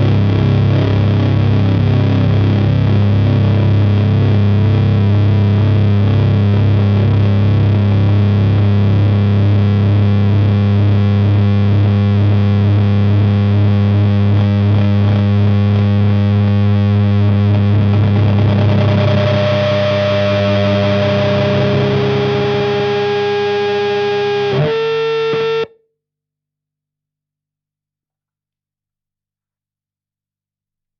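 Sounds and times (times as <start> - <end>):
distorted electric guitar drone: 0.0 - 25.8.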